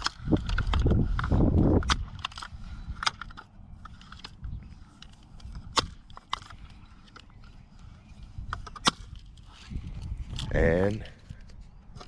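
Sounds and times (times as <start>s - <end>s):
air rifle pump clicking: 0.0s - 10.5s.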